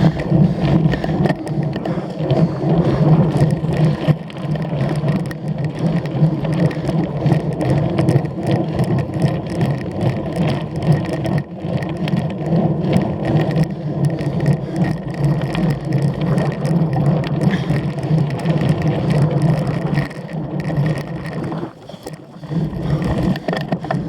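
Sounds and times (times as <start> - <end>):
bike chain and frame rattling: 0.0 - 24.0
bike tyres rumbling on ground: 0.0 - 24.0.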